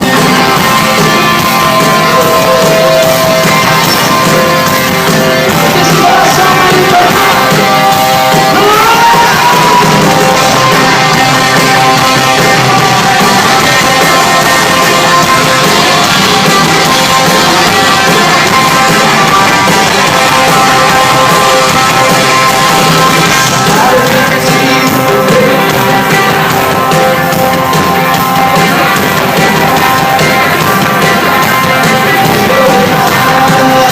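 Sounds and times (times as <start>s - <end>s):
drums: 0.0s - 33.9s
electric guitars: 0.0s - 33.9s
person singing: 0.0s - 33.9s.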